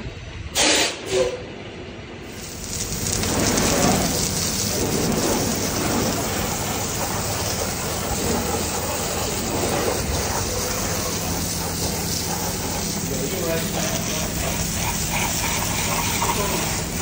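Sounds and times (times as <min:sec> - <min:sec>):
hose water spraying: 0:02.2 - 0:17.0.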